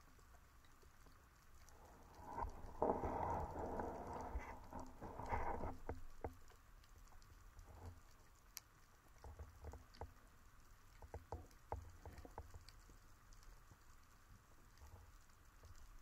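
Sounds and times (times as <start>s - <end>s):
sharp underwater clicks: 0.0s - 16.0s.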